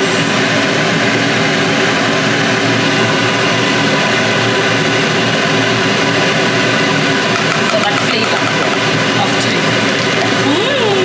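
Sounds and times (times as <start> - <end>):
loud mechanical drone: 0.0 - 11.0.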